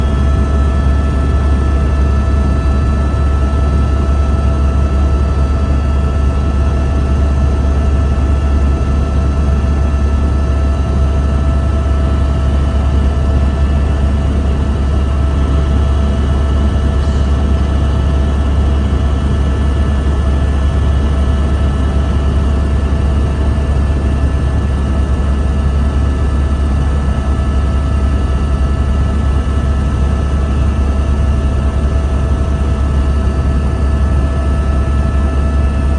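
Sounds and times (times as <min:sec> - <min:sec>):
helicopter drone: 0:00.0 - 0:35.9.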